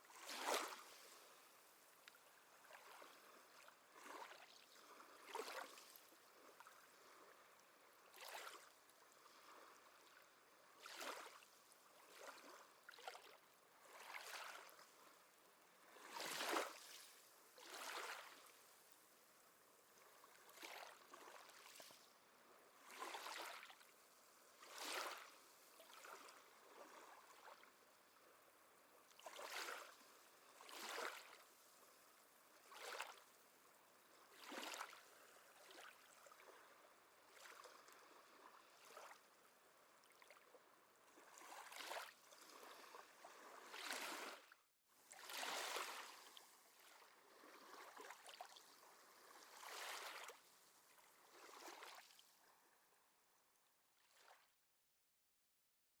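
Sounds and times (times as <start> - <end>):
small waves washing on shore: 0.0 - 19.4, 22.6 - 28.5, 29.1 - 33.4, 34.1 - 39.2, 41.1 - 52.2.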